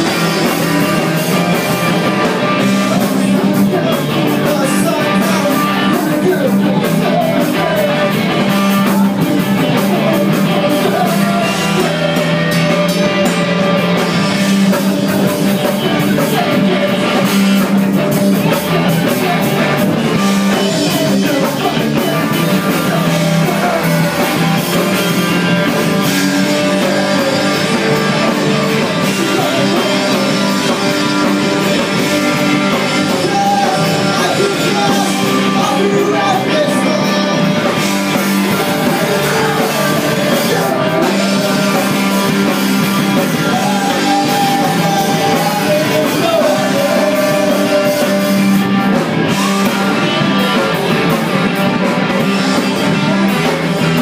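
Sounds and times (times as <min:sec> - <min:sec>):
bass guitar: 0:00.0 - 0:54.0
drum kit: 0:00.0 - 0:54.0
electric guitars: 0:00.0 - 0:54.0
person singing: 0:00.0 - 0:54.0.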